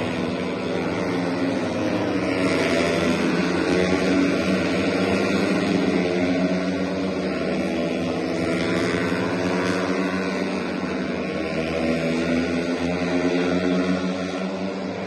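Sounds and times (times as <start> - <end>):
motorcycle engines droning: 0.0 - 15.0.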